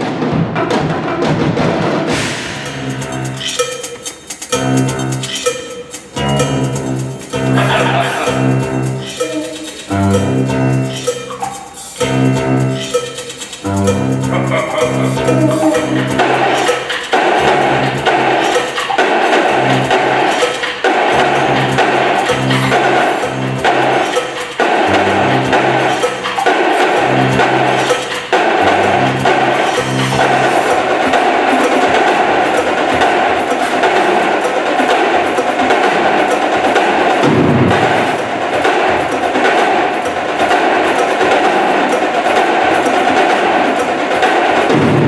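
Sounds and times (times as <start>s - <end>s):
marching drums playing: 0.0s - 45.0s
backing track of pitched notes: 0.9s - 45.0s.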